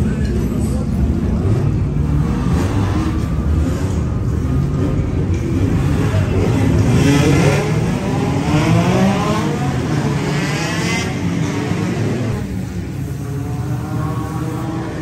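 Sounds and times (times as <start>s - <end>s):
diesel engine revving: 1.4s - 15.0s.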